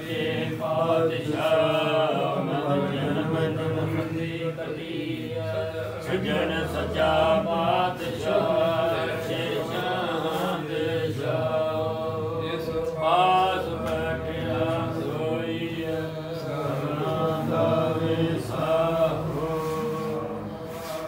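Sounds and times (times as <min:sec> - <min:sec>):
devotional hymn sung as chant: 0:00.0 - 0:21.0.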